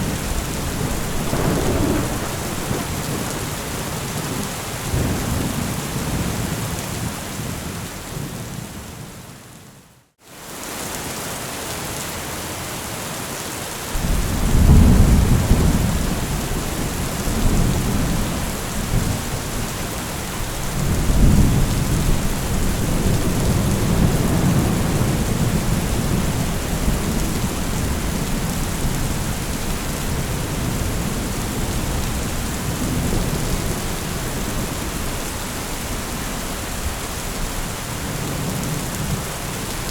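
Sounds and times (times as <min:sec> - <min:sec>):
thunder rumbling: 0:00.0 - 0:06.4, 0:14.0 - 0:39.9
heavy rain: 0:00.0 - 0:39.9.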